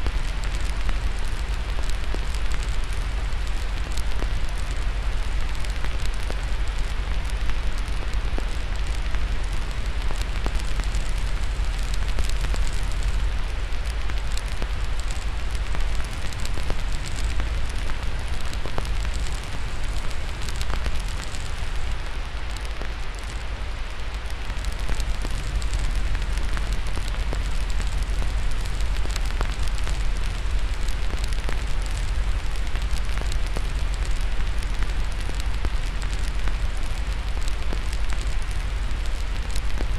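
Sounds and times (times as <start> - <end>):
fire crackling and popping: 0.0 - 39.9
steady white noise hiss: 0.0 - 39.9.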